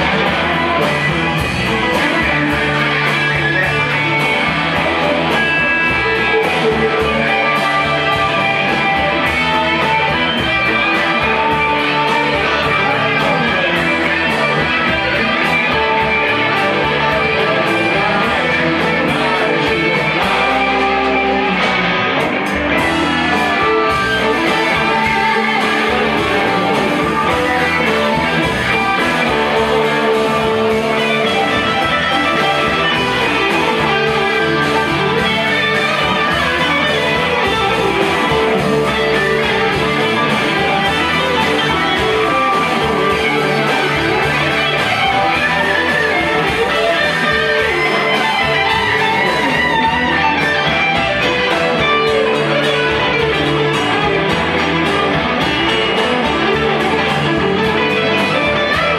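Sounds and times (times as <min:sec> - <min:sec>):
drums: 0:00.0 - 0:58.9
electric guitars: 0:00.0 - 0:58.9
keyboard: 0:00.0 - 0:58.9.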